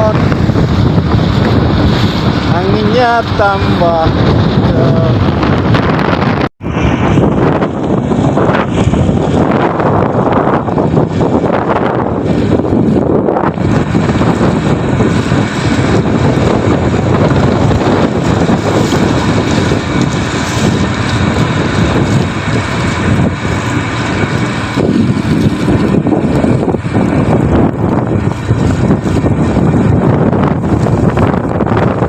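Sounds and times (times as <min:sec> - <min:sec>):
truck engine running: 0:00.0 - 0:32.0
wind buffeting microphone: 0:00.0 - 0:32.0.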